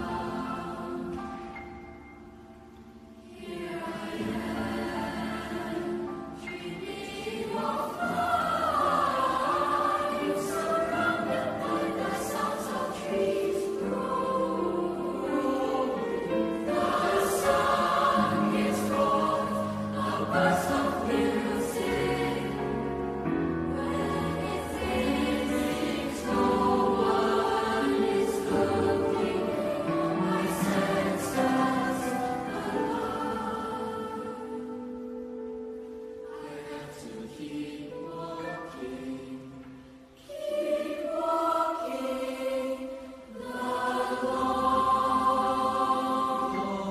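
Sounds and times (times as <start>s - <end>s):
choir singing: 0.0s - 46.9s.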